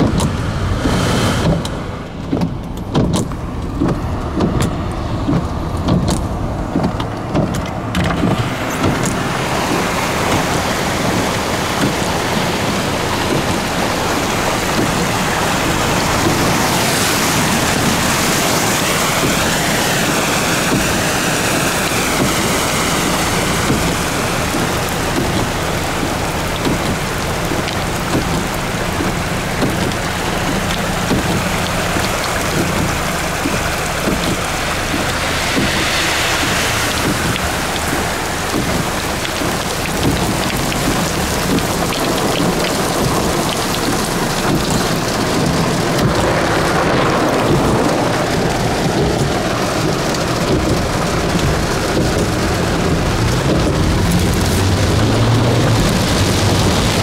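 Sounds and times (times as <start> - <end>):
heavy rain hissing: 7.8 - 57.0.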